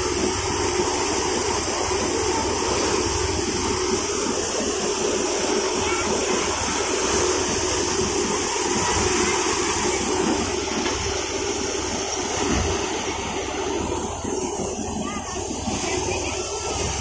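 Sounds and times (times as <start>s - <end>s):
straw and grain rushing: 0.0s - 17.0s.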